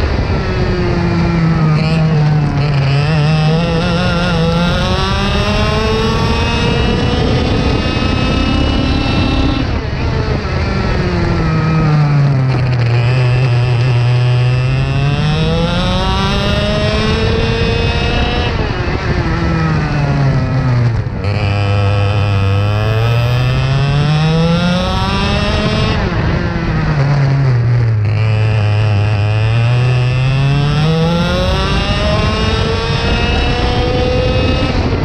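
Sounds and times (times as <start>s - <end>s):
kart engine revving: 0.0s - 35.0s.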